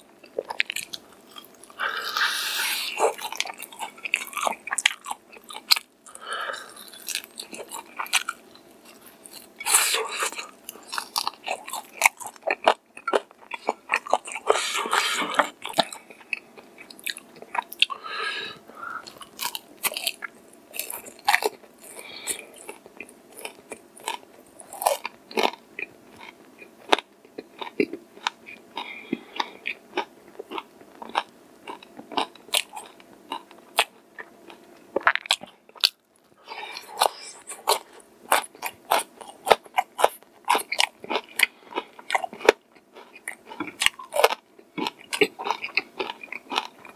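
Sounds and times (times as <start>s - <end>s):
crunchy chewing of fried chicken: 0.0s - 46.9s.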